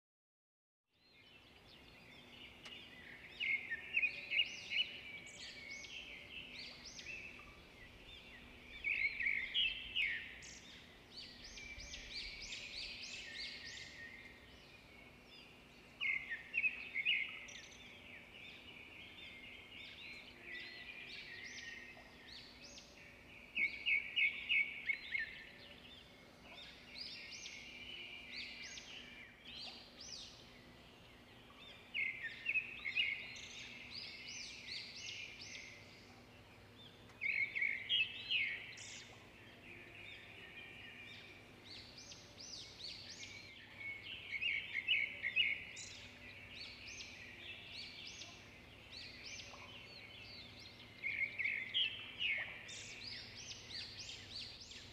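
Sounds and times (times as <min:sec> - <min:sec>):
birds chirping: 0:01.0 - 0:54.9.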